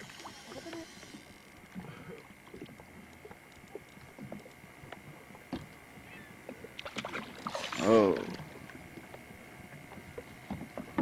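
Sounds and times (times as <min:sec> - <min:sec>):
gear knocking in a boat: 0:00.0 - 0:11.0.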